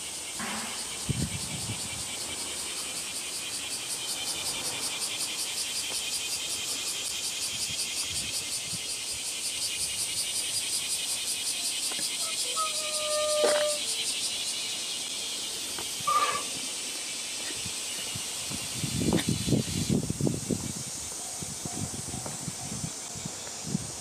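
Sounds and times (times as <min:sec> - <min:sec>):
cicadas singing: 0:00.0 - 0:24.0.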